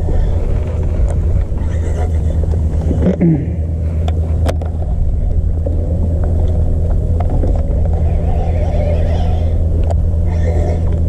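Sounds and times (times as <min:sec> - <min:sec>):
trolling motor humming: 0:00.0 - 0:11.0.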